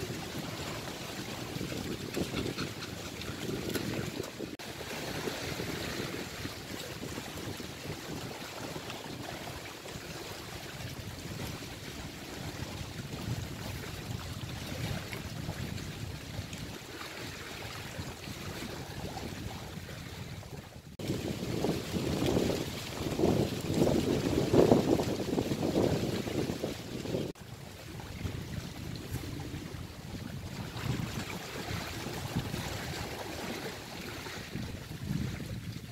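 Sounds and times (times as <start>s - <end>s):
wind buffeting microphone: 0.0s - 9.4s, 10.2s - 35.9s
waves washing against rocks: 0.0s - 16.1s, 21.0s - 27.4s, 28.2s - 35.9s.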